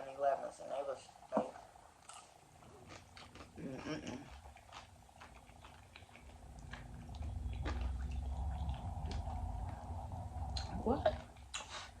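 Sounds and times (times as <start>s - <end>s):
steady low hum: 0.0s - 12.0s
crunchy chewing of chips: 2.0s - 12.0s.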